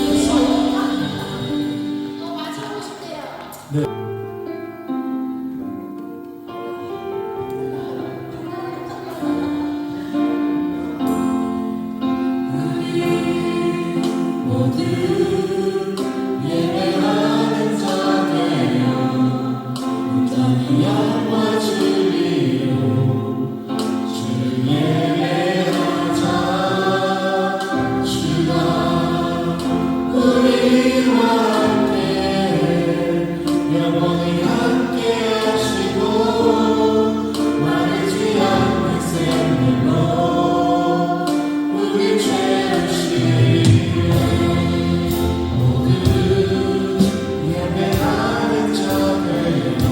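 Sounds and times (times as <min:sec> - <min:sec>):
choir singing a hymn: 0:00.0 - 0:04.0, 0:06.4 - 0:49.9.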